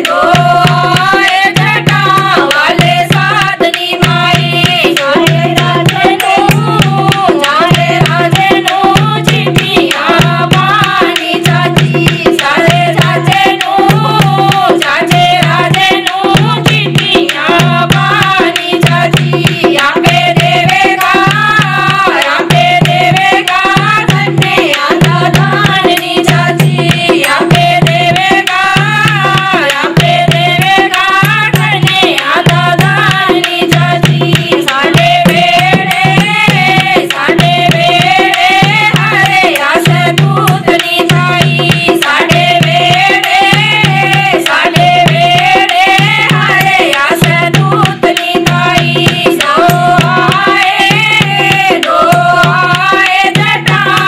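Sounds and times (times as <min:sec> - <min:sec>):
hand drum beating: 0:00.0 - 0:54.0
women singing folk song: 0:00.0 - 0:54.0.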